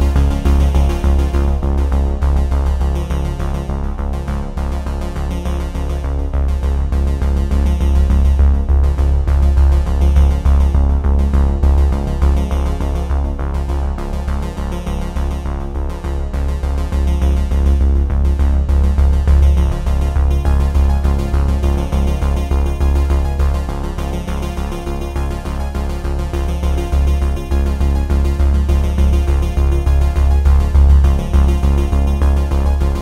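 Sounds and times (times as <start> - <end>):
electronic music with heavy bass: 0.0 - 33.0.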